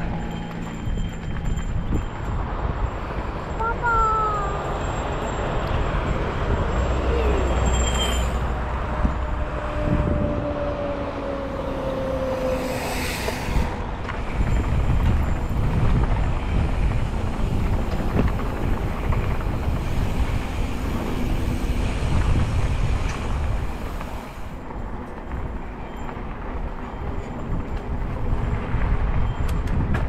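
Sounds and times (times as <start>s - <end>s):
wind buffeting microphone: 0.0s - 3.9s, 8.4s - 30.0s
bike rumbling and rattling: 0.0s - 30.0s.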